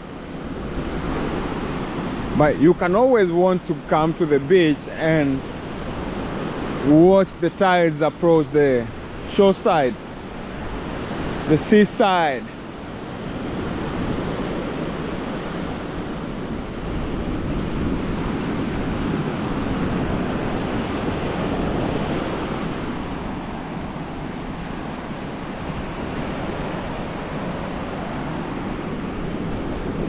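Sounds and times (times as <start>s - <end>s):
surf breaking on a sandy beach: 0.0s - 30.0s.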